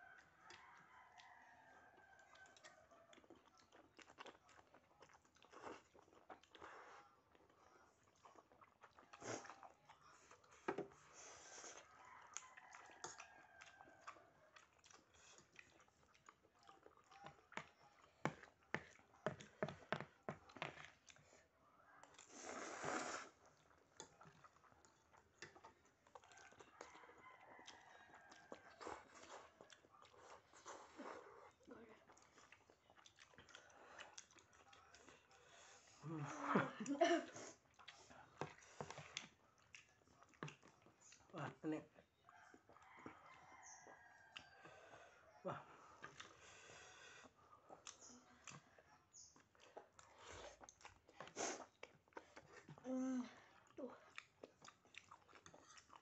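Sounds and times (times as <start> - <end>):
chewing and mouth smacking: 0.0 - 52.8, 53.4 - 56.0.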